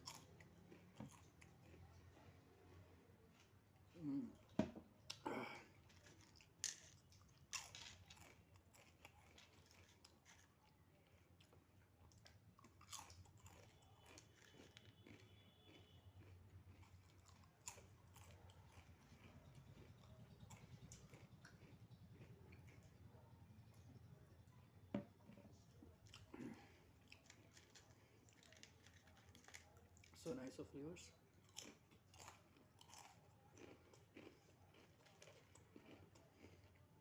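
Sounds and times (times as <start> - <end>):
potato chips crunching: 0.0 - 2.1, 5.1 - 23.1, 25.4 - 30.6, 31.4 - 37.0
soft chewing: 0.0 - 37.0.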